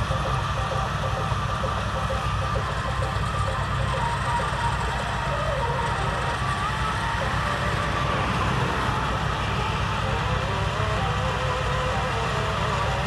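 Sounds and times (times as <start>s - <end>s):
faint wavering whine: 0.0s - 13.0s
tractor engine droning: 0.0s - 13.0s.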